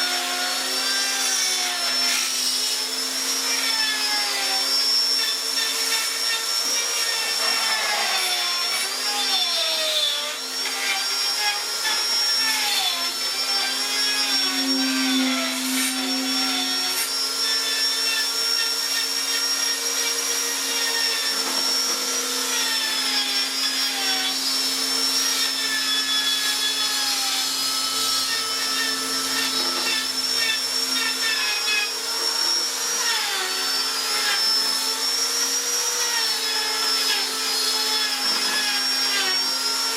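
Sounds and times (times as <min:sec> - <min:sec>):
power tool motor whining on wood: 0:00.0 - 0:39.9.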